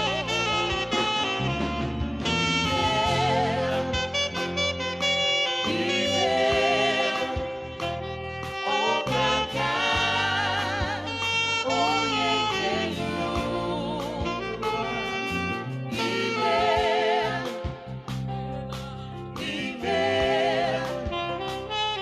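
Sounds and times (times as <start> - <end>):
keyboard and bass backing: 0.0 - 22.0
saxophone playing gospel melody: 0.0 - 22.0.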